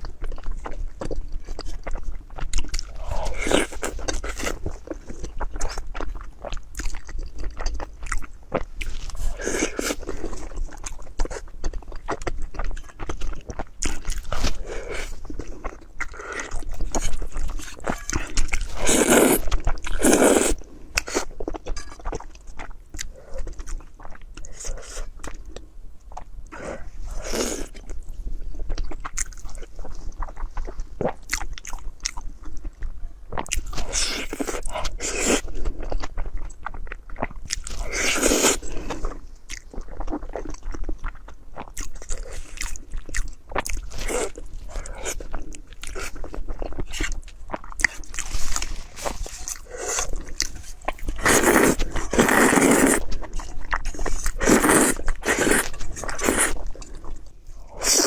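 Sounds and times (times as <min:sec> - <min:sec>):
person crunching and chewing food: 0:00.0 - 0:58.0.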